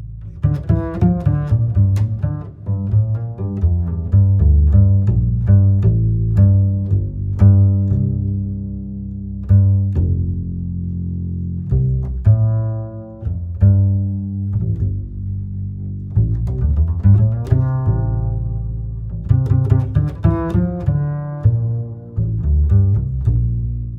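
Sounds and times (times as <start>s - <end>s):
plucked and bowed strings music: 0.0s - 23.9s.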